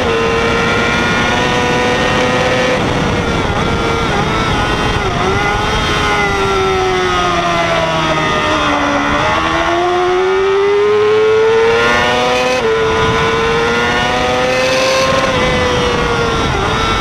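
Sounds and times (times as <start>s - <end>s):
motorcycle engine revving: 0.0s - 17.0s
rushing wind noise: 0.0s - 17.0s.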